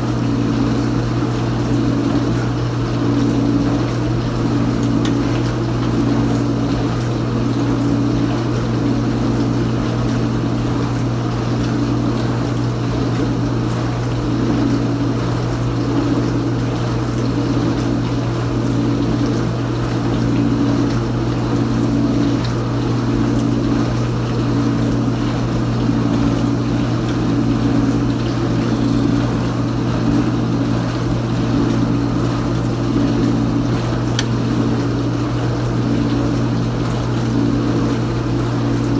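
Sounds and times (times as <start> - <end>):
dishwasher pump motor hum: 0.0 - 38.9.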